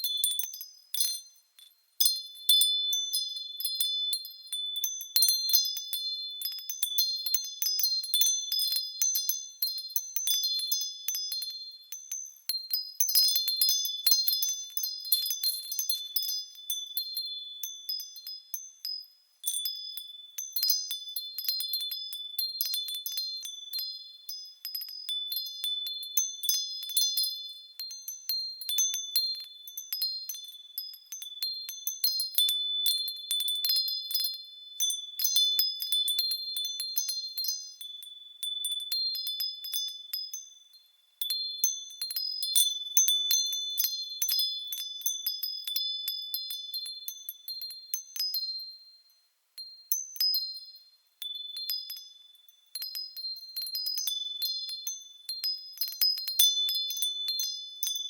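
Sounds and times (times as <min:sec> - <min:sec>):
wind chimes tinkling: 0:00.0 - 0:58.0.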